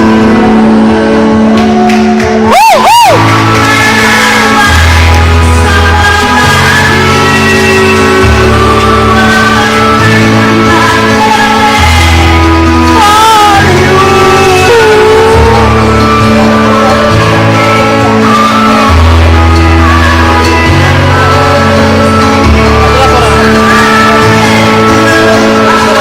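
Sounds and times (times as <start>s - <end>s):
person singing loudly: 2.4s - 26.0s.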